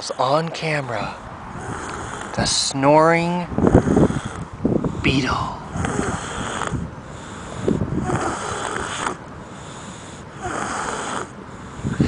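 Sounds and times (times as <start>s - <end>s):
rasping snoring: 1.0s - 2.7s, 3.6s - 12.0s.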